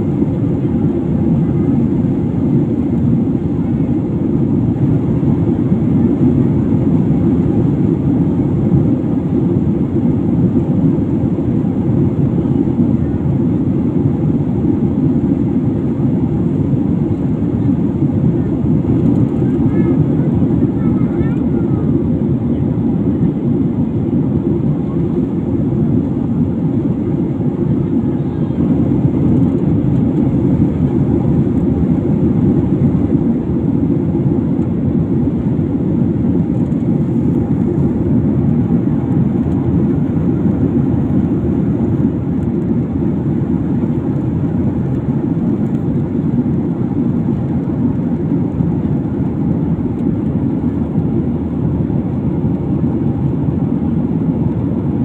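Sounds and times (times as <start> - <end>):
airliner cabin jet noise: 0.0 - 55.0.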